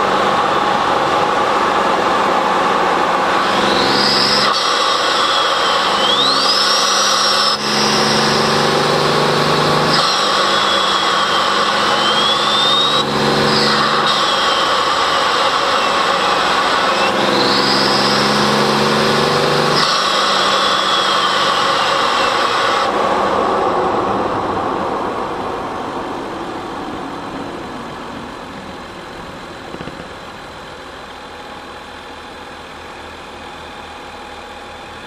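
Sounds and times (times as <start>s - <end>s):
engine idling: 0.0s - 35.0s
engine intake roar and whine: 0.0s - 35.0s.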